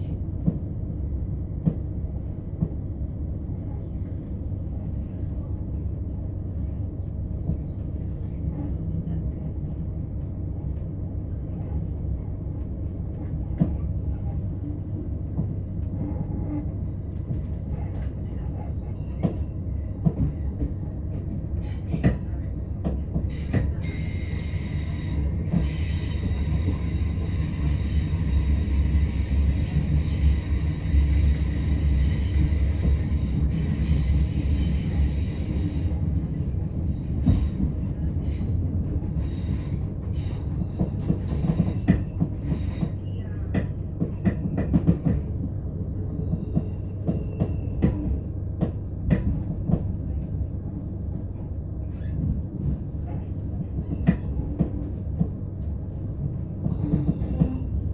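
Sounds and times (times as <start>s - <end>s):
train wheels rumbling on track: 0.0s - 57.9s.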